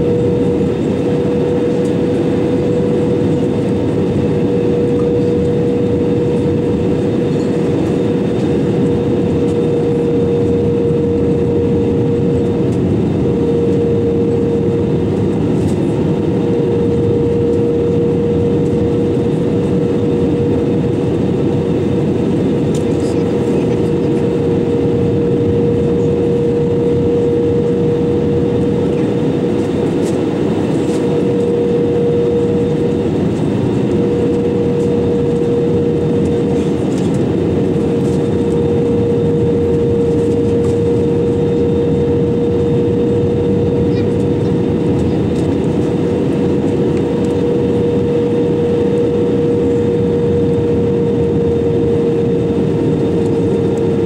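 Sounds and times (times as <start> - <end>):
aircraft cabin engine and airflow noise: 0.0 - 54.0
mid-pitched hum: 0.0 - 54.0.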